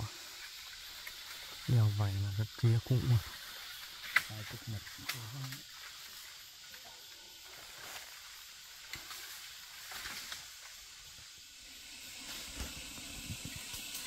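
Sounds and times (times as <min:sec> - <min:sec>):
rain on foliage: 0:00.0 - 0:06.8, 0:07.4 - 0:14.0.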